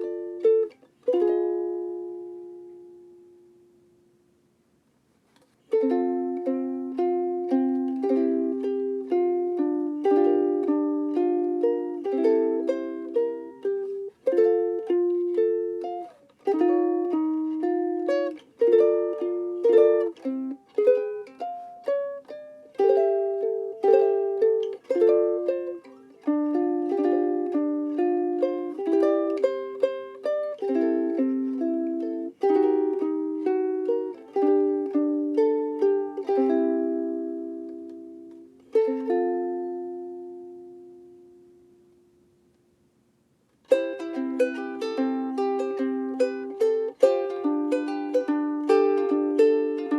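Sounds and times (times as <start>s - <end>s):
ukulele melody over chords: 0.0s - 4.2s, 5.6s - 42.4s, 43.7s - 49.9s.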